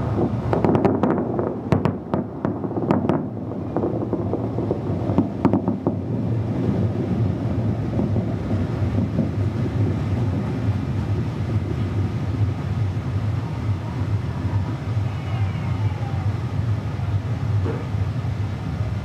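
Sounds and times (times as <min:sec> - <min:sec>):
firework bangs: 0:00.0 - 0:16.4
low rumbling drone: 0:00.0 - 0:19.0
wind on microphone: 0:00.0 - 0:19.0.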